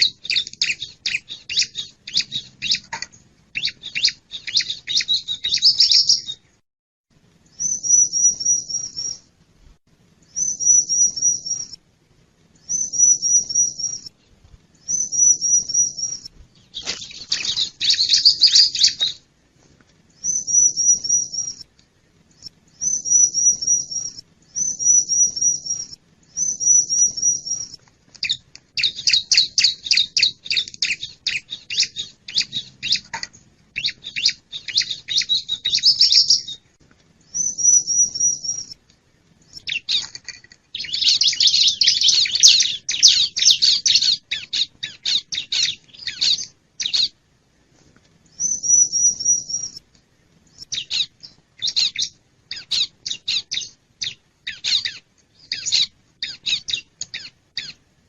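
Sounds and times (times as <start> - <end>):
bird singing trilled chirps: 0.0 - 6.5, 7.5 - 9.3, 10.2 - 11.8, 12.6 - 14.2, 14.8 - 19.2, 20.2 - 21.7, 22.3 - 33.1, 33.8 - 36.6, 37.3 - 38.8, 39.4 - 47.2, 48.3 - 49.8, 50.5 - 57.8.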